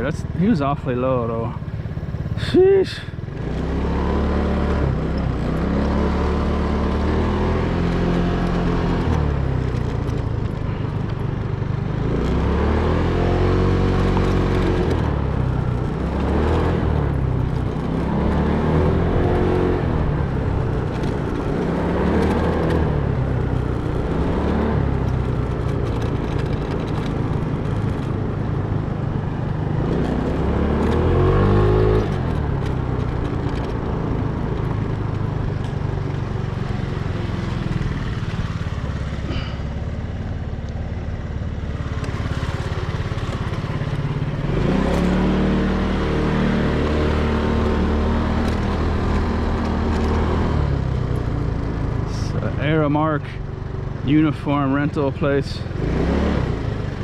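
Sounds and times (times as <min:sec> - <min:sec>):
car engine accelerating and slowing: 0:00.0 - 0:57.0.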